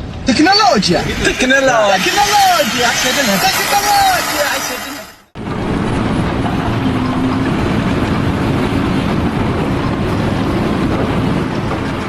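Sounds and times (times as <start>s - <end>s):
machinery running loudly: 0.4s - 12.0s.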